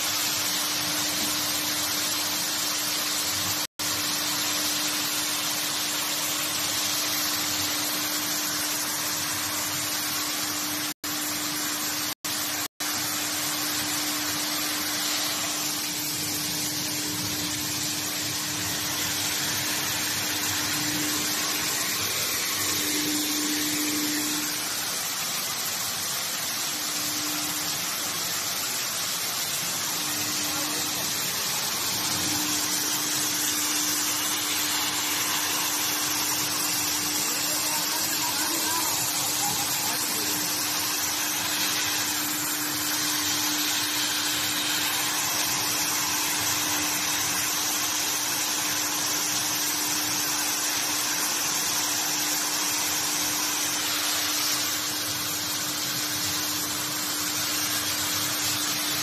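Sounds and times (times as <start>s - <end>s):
motor hum: 0.0s - 51.5s
water spraying from nozzles: 0.0s - 59.0s.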